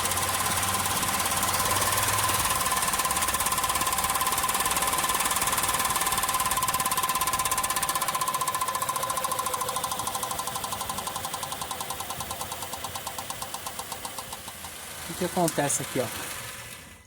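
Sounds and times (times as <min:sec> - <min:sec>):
rapid rattle of rotating axle: 0:00.0 - 0:17.0.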